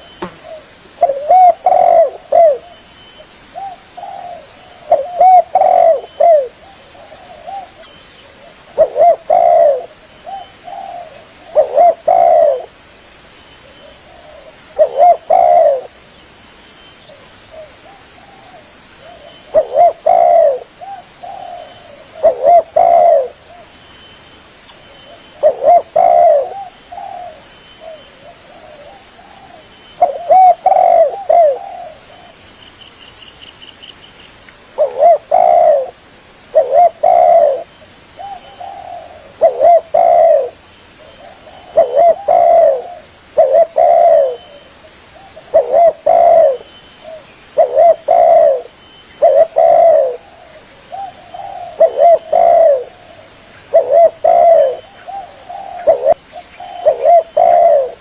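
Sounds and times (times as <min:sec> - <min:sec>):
dove cooing: 0:00.0 - 0:02.8, 0:03.5 - 0:12.8, 0:13.8 - 0:16.0, 0:17.1 - 0:23.8, 0:25.1 - 0:32.4, 0:34.8 - 0:58.0.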